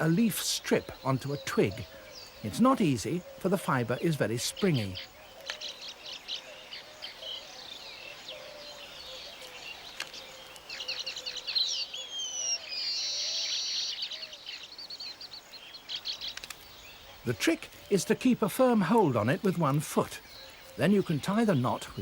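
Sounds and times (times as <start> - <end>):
birds chattering and chirping: 0.0 - 22.0.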